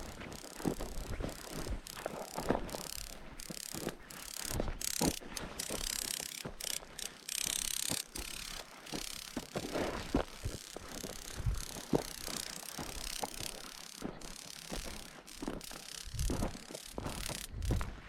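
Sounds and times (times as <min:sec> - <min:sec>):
footsteps on gravel: 0:00.0 - 0:18.0
rustling: 0:00.0 - 0:18.0.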